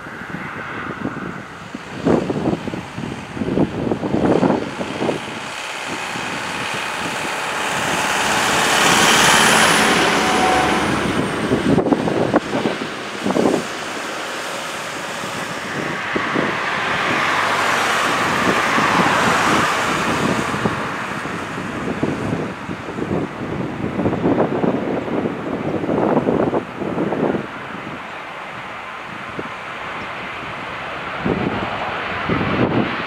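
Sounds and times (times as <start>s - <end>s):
steady outdoor rush: 0.0s - 33.0s
wind buffeting microphone: 0.0s - 33.0s.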